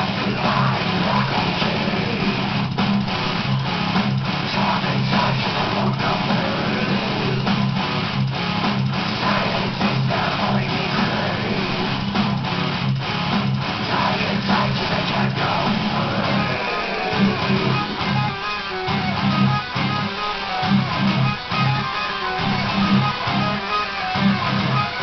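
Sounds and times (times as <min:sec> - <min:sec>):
guitar strumming: 0:00.0 - 0:25.0
repeating bass line: 0:00.0 - 0:25.0.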